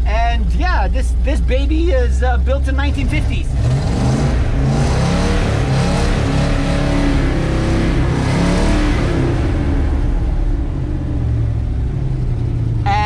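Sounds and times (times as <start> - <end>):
truck engine revving: 0.0 - 12.9.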